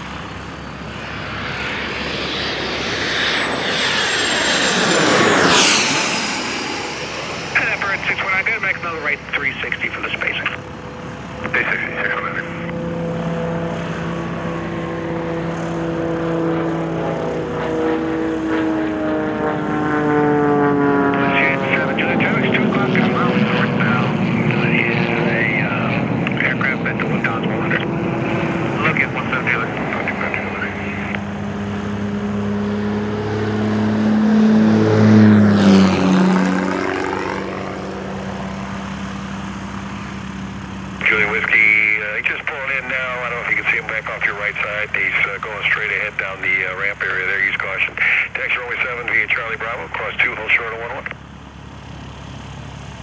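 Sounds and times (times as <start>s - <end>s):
aircraft engine running: 0.0s - 53.0s
airplane flying past: 0.0s - 53.0s.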